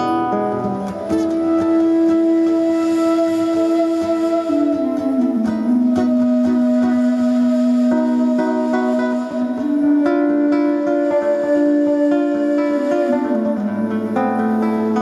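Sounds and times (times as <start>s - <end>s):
long held melody notes: 0.0s - 15.0s
plucked string instrument: 0.0s - 15.0s.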